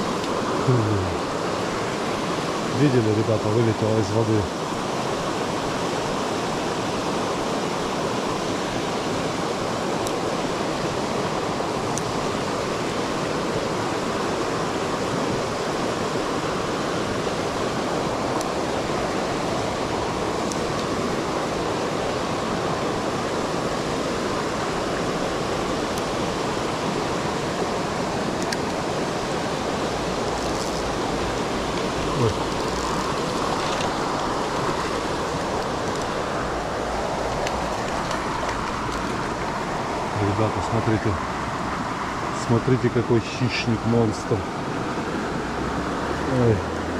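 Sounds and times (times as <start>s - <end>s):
stream rushing over stones: 0.0s - 46.9s.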